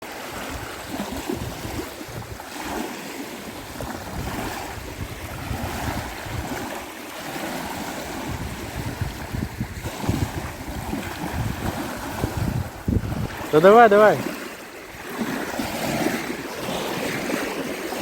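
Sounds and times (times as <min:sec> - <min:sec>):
waves on water: 0:00.0 - 0:18.0
wind buffeting microphone: 0:00.1 - 0:18.0.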